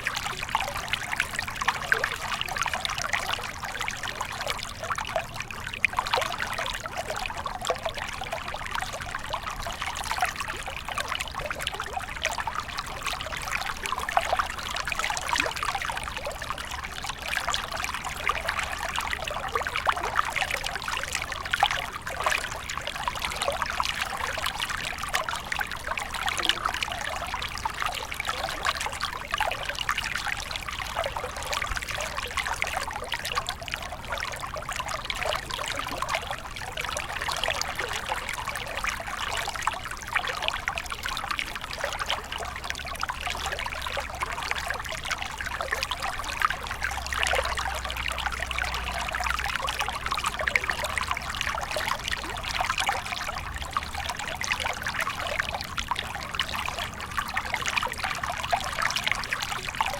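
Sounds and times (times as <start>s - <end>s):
stream trickling over stones: 0.0s - 59.9s.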